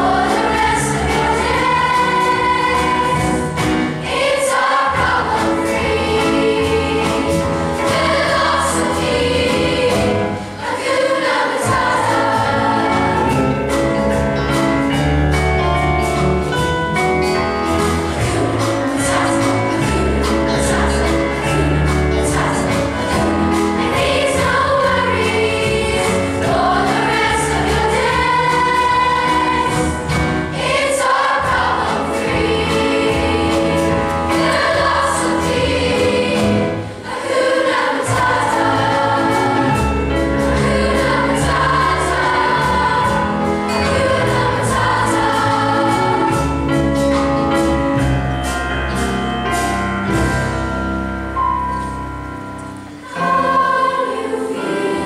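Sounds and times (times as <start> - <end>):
instrumental accompaniment with beat: 0.0 - 54.3
children's choir singing: 0.0 - 55.0.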